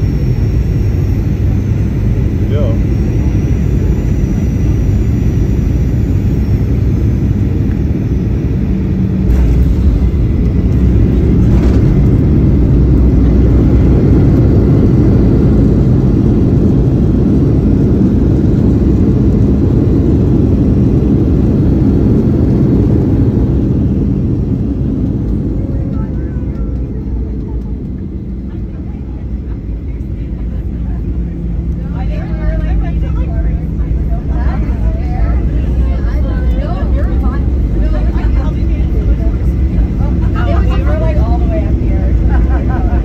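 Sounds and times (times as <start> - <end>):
airliner cabin engine rumble: 0.0 - 43.0.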